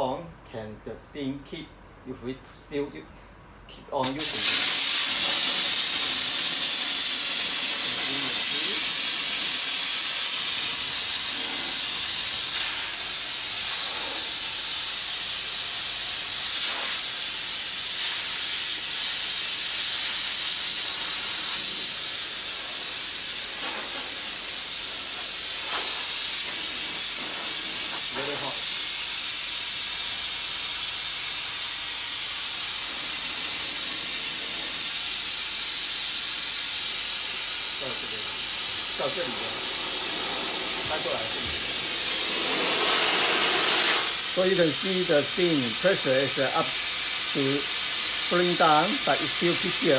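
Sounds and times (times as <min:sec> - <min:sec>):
steam hissing from spray gun: 0:04.0 - 0:49.9.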